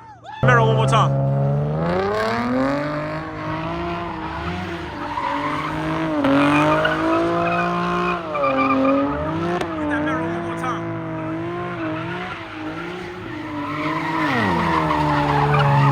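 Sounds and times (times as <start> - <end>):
car engine revving hard: 0.4 - 15.9
tires squealing: 0.4 - 15.9.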